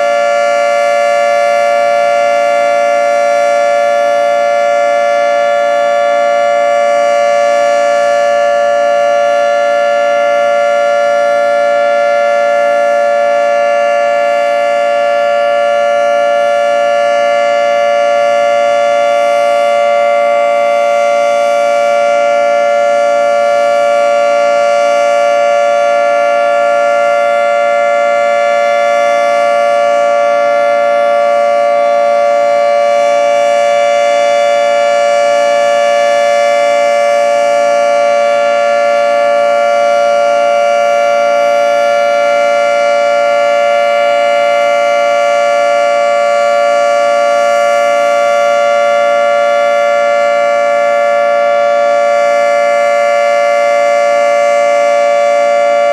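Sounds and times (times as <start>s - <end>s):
two-tone warning siren: 0.0s - 55.9s.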